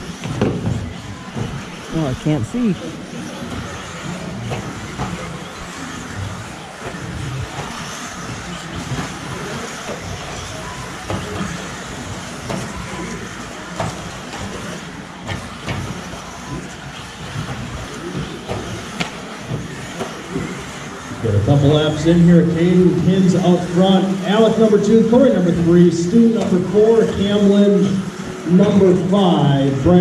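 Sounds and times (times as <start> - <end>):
electric rc cars racing: 0.0 - 30.0.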